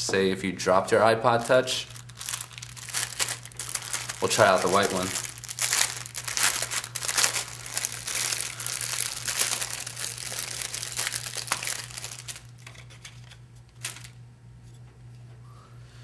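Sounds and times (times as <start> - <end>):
packaging crinkling: 1.4 - 14.2.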